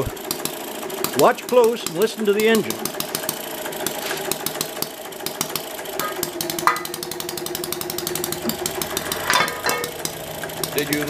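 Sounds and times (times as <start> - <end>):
model engine exhaust beats: 0.0 - 11.0.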